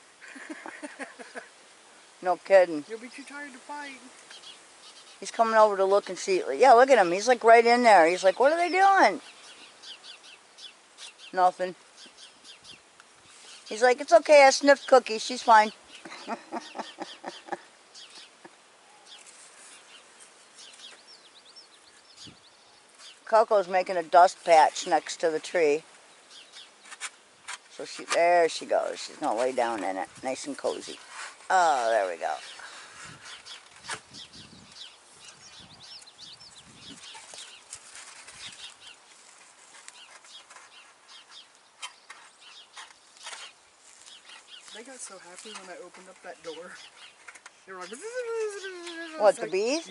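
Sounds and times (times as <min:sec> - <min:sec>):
faint birdsong: 0:00.0 - 0:49.9.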